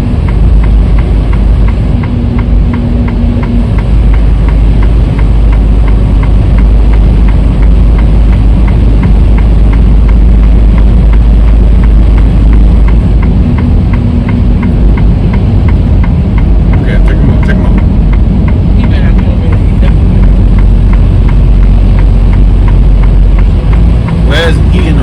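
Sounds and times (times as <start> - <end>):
light ticking: 0.0 - 25.0
truck diesel engine rumble: 0.0 - 25.0.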